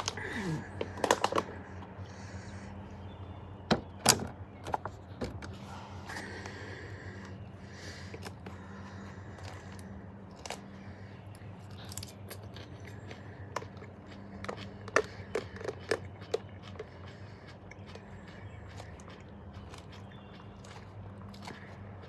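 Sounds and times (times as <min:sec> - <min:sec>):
crunchy eating clicks: 0:00.0 - 0:03.1, 0:06.2 - 0:22.0
steady low hum: 0:00.0 - 0:22.0.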